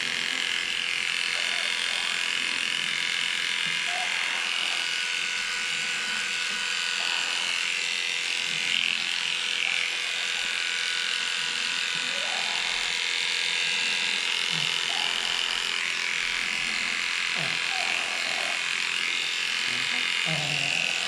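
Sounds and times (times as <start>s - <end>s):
electric clipper running: 0.0s - 21.0s.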